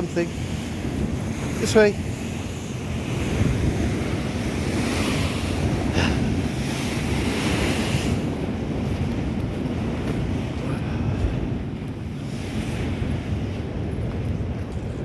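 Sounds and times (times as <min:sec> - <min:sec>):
sea waves breaking on shore: 0:00.0 - 0:15.0
wind rumbling on microphone: 0:00.0 - 0:15.0.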